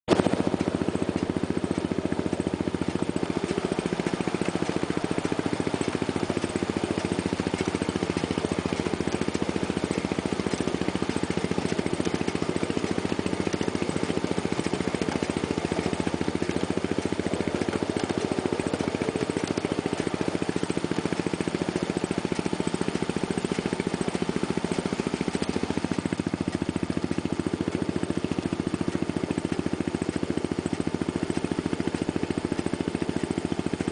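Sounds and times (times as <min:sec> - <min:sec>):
small locomotive engine running: 0:00.1 - 0:33.9.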